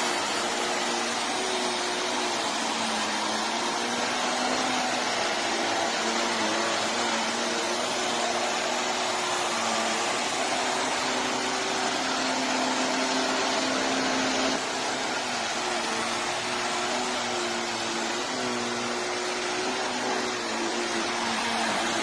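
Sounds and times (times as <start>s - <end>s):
handheld vacuum motor hum: 0.0s - 22.0s.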